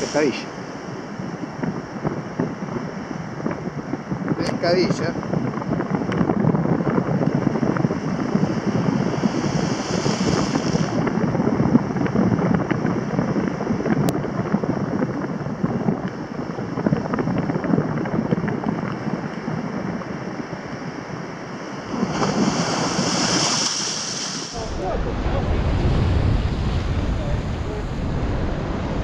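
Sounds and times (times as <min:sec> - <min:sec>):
surf washing over rocks: 0:00.0 - 0:06.2, 0:06.8 - 0:29.0
wind buffeting microphone: 0:00.0 - 0:29.0.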